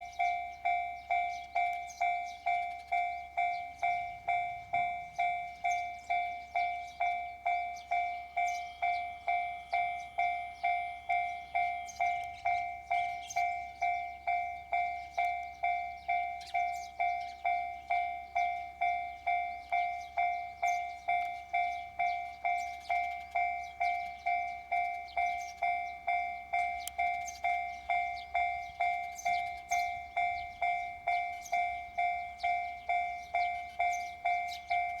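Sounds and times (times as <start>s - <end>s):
level crossing warning bell: 0.0s - 35.0s.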